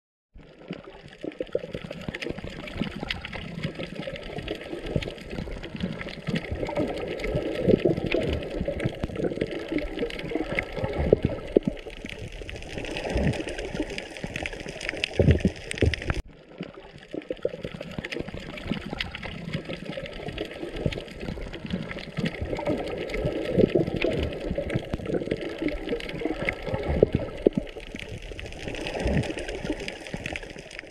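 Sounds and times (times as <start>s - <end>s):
small clicks underwater: 0.4s - 30.9s
water bubbling and gurgling: 0.4s - 30.9s.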